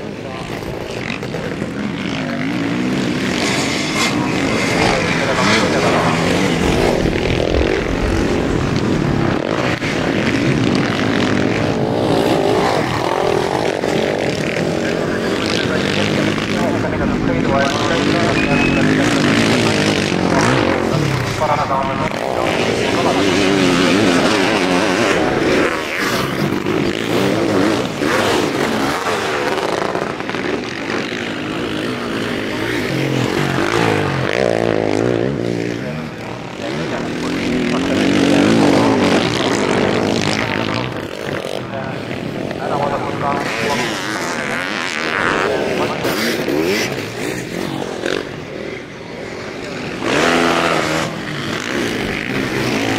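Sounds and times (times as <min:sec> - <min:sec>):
sidecar motocross engines revving: 0:00.0 - 0:52.9.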